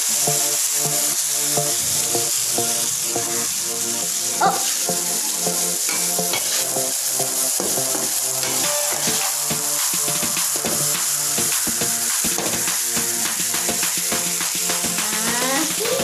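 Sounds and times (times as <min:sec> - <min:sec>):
background music with steady beat: 0:00.0 - 0:16.0
vegetables sizzling in a wok: 0:02.8 - 0:16.0.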